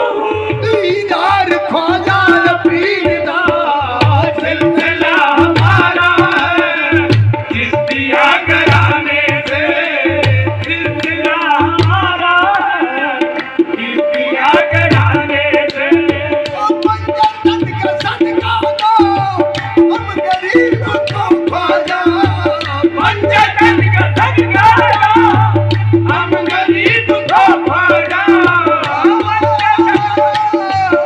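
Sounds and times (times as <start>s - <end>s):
group singing: 0.0s - 16.6s, 21.0s - 31.0s
harmonium: 0.0s - 31.0s
hand drum beat: 0.6s - 31.0s.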